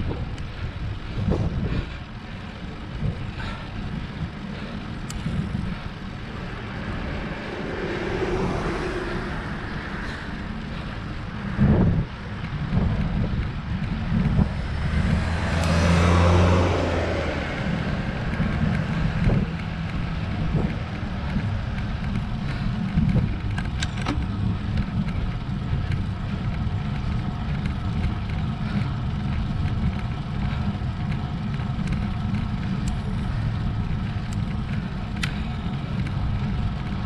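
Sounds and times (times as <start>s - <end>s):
motor vehicle passing: 0.0s - 37.0s
wind rumbling on microphone: 0.0s - 37.0s.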